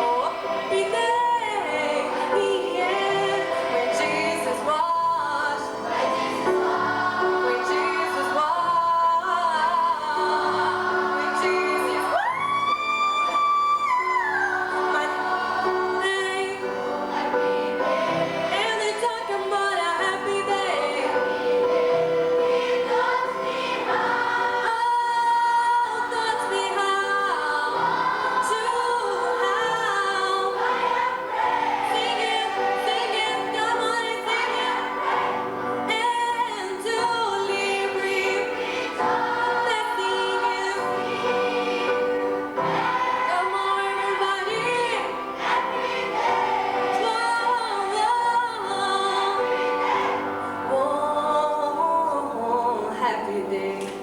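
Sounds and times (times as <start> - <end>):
choir singing: 0.0 - 54.0
musical accompaniment: 0.0 - 54.0.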